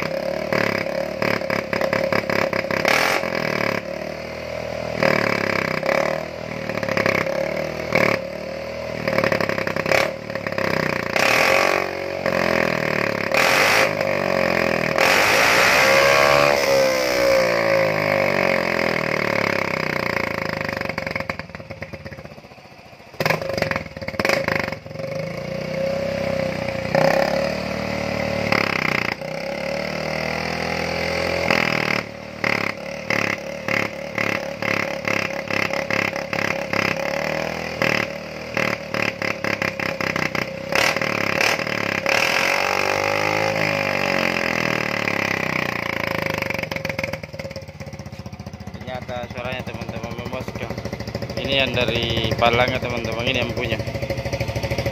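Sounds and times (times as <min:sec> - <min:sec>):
loud scooter engine revving: 0:00.0 - 0:54.9.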